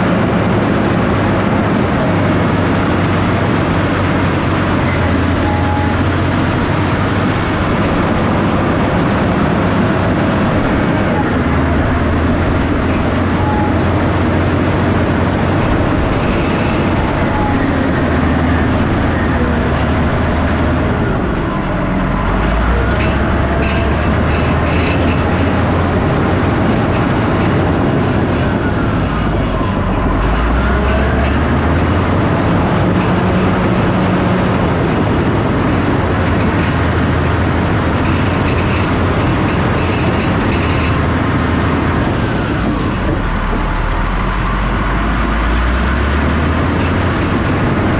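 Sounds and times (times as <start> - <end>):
diesel earthmover engine under load: 0.0 - 47.9.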